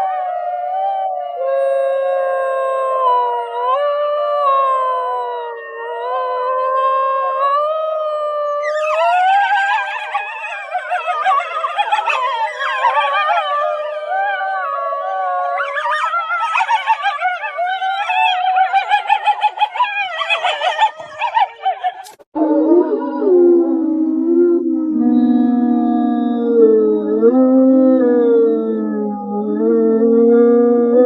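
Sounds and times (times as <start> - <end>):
wolves howling: 0.0 - 31.0.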